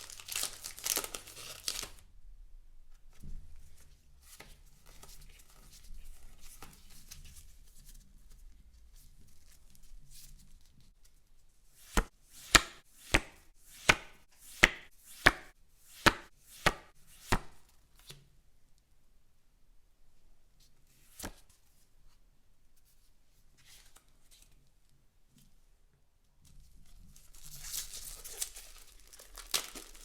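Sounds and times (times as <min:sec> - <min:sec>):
faint rustling of cards: 0:00.0 - 0:02.0, 0:02.9 - 0:18.9, 0:20.5 - 0:30.0.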